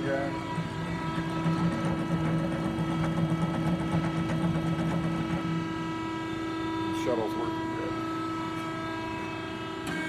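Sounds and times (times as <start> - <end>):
band saw machine hum: 0.0 - 10.0.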